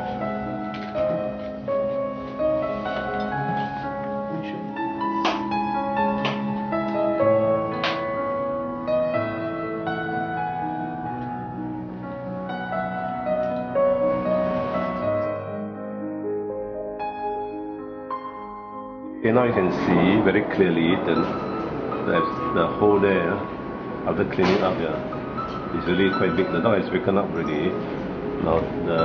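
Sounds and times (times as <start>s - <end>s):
background piano music: 0.0s - 29.0s.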